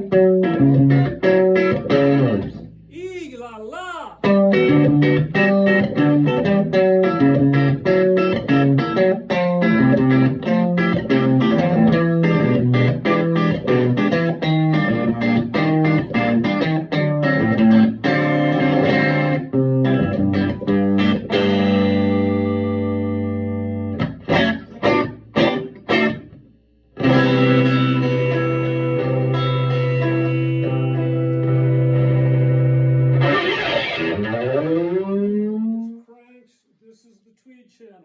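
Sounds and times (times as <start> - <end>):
electric guitar notes: 0.0 - 2.7, 4.2 - 26.4, 27.0 - 35.8.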